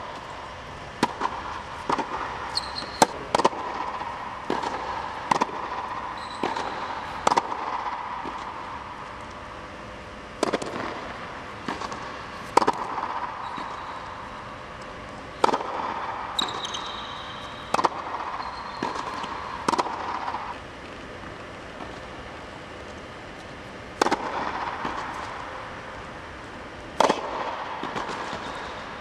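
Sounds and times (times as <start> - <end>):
steady background hum: 0.0 - 29.0
tennis balls bouncing on court: 0.1 - 9.4, 10.1 - 28.9
tennis balls struck by rackets: 0.1 - 9.4, 10.1 - 22.1, 22.8 - 29.0.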